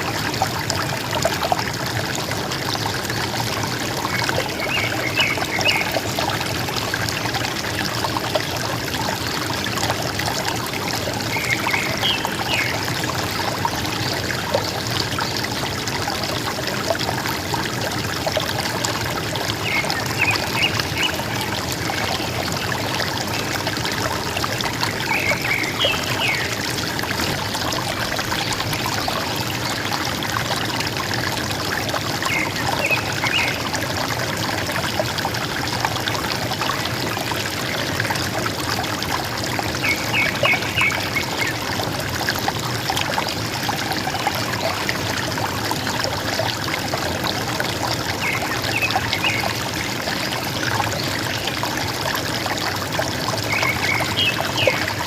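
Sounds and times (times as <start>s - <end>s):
river water gurgling: 0.0s - 55.0s.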